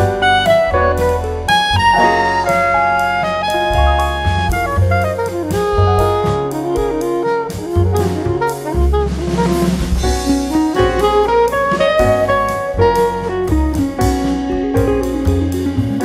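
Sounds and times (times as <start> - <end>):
bass: 0.0 - 16.0
drum kit beat: 0.0 - 16.0
jazz horn melody: 0.0 - 16.0.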